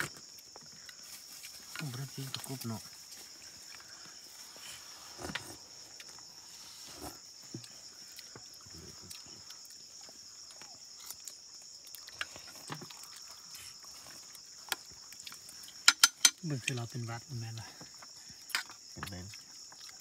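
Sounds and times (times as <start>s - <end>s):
night insects chirring: 0.0s - 20.0s.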